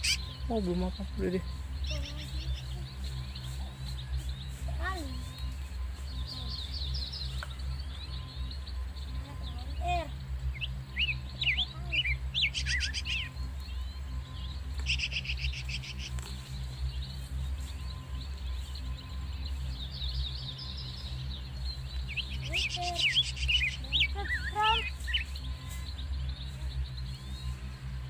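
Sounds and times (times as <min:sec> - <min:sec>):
low hum: 0:00.0 - 0:28.0
small birds chirping: 0:00.0 - 0:28.0.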